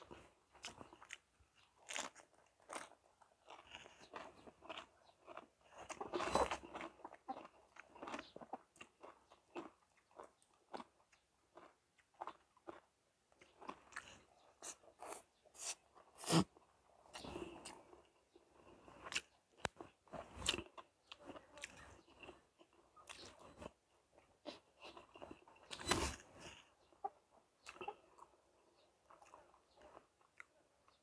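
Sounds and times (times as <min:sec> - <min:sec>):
chewing and crunching vegetables: 0:00.0 - 0:31.0.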